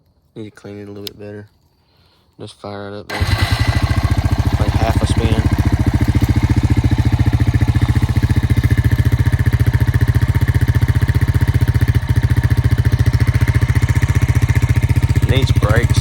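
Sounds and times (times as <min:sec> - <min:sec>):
atv engine idling: 0:03.1 - 0:16.0.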